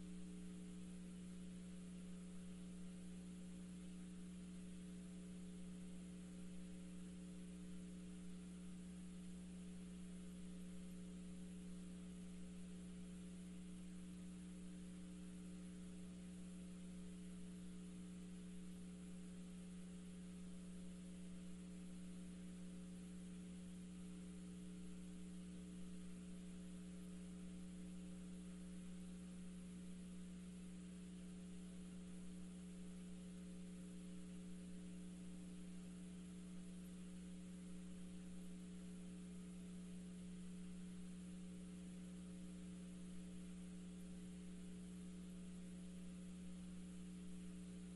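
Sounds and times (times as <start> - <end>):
low electrical hum: 0.0 - 47.9.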